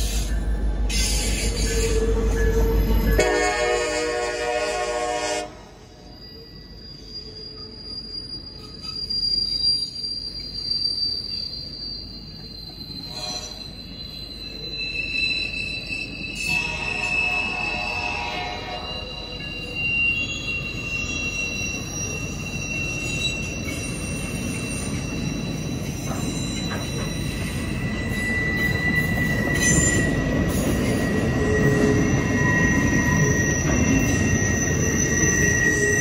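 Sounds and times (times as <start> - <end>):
high-pitched wheel squeal: 0.0 - 3.4, 5.8 - 36.0
wheels rumbling on rail: 0.0 - 36.0.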